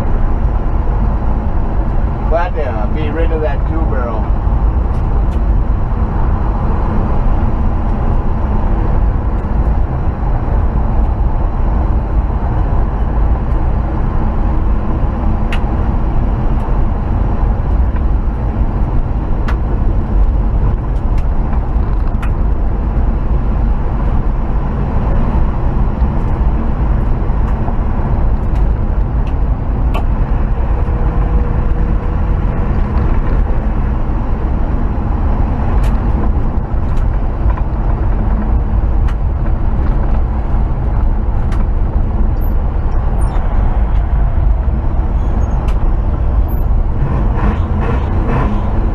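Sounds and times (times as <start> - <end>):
pickup engine running: 0.0 - 48.9
road and wind noise: 0.0 - 48.9.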